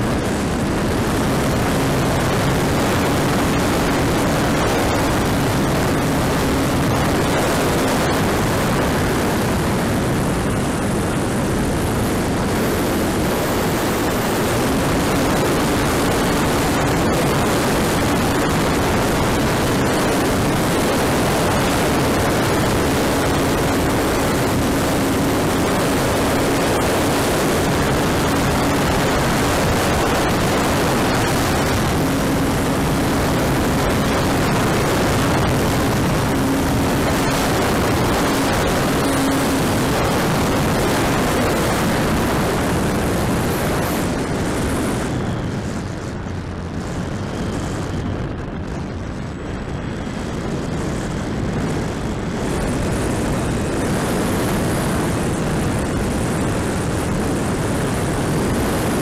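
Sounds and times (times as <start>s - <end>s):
model motor and propeller humming: 0.0s - 59.0s
rushing airflow: 0.0s - 59.0s.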